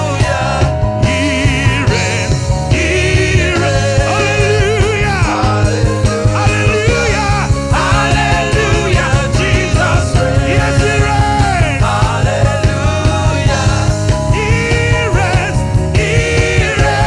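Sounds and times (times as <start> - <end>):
gospel band music: 0.0 - 17.0.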